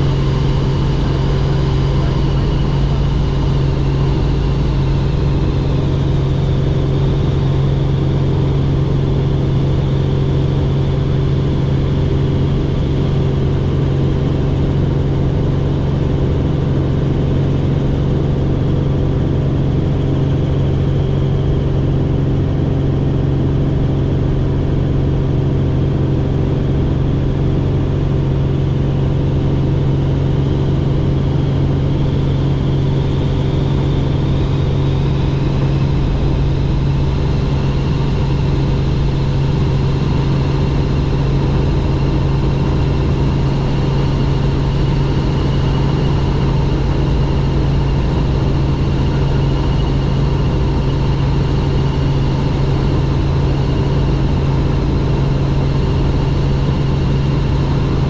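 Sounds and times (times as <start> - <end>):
high whine: 0.0 - 16.0, 27.3 - 58.0
helicopter rotor drone: 0.0 - 58.0.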